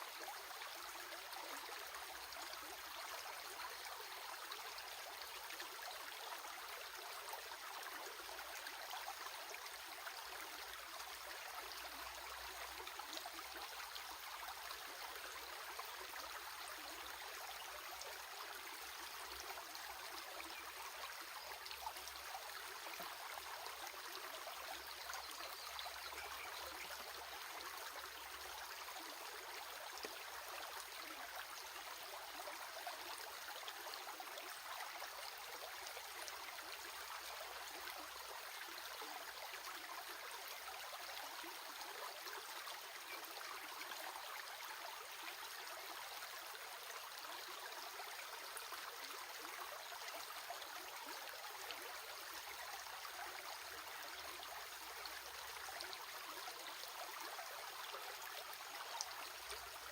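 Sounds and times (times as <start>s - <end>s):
water flowing in stream: 0.0s - 59.9s.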